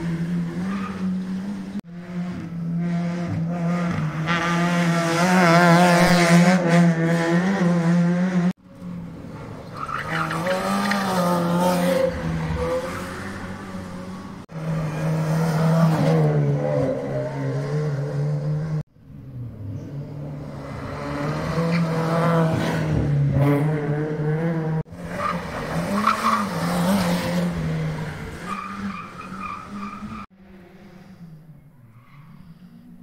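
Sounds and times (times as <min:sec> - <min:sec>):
rally car engines revving high: 0:00.0 - 0:33.0.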